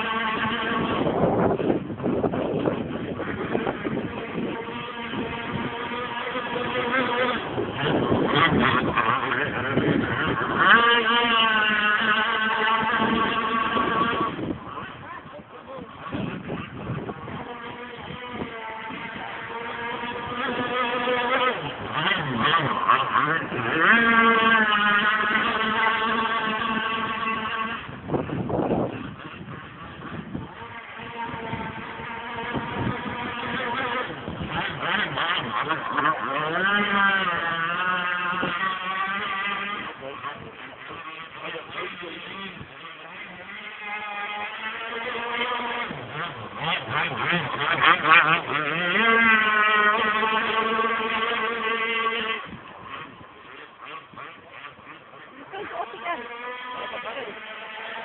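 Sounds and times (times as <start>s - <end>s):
small two-stroke engine revving: 0.0s - 58.0s.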